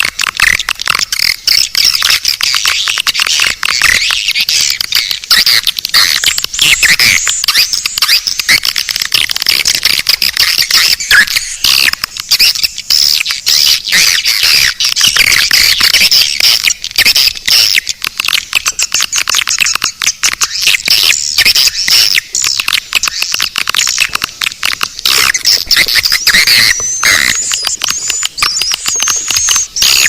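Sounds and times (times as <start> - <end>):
swiftlets twittering: 0.0 - 30.0.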